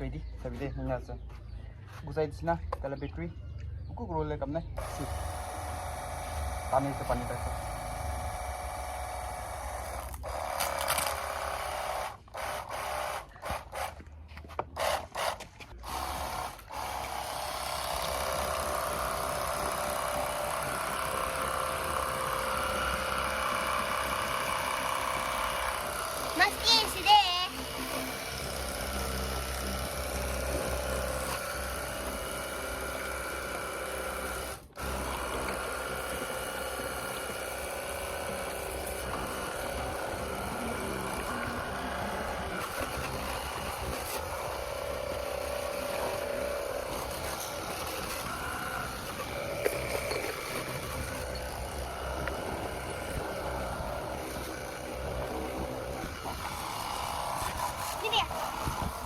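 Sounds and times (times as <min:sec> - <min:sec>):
pressure washer pump humming: 0:04.8 - 0:13.5, 0:15.8 - 0:59.0.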